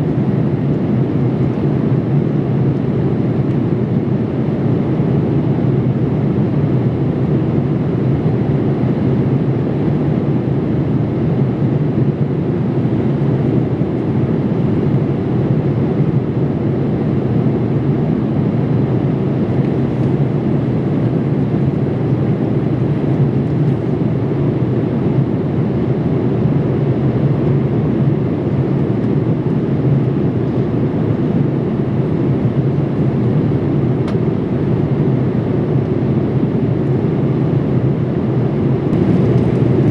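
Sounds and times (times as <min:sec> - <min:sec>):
airplane cabin engine rush: 0:00.0 - 0:39.9.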